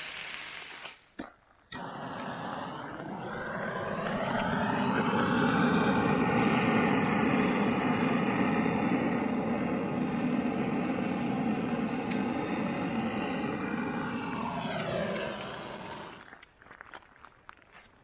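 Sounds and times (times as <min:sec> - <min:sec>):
engine droning: 0:01.8 - 0:16.3.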